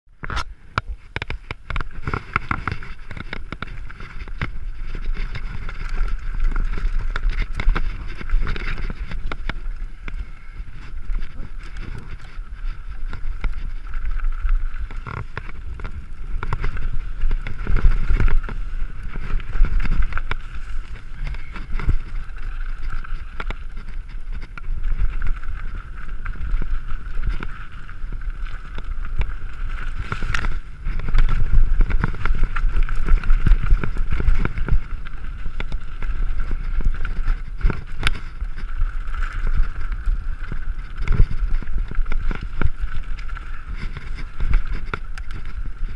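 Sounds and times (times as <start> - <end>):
wind rumble on microphone: 0.1 - 45.9
bike clicks and rattles: 0.2 - 45.9.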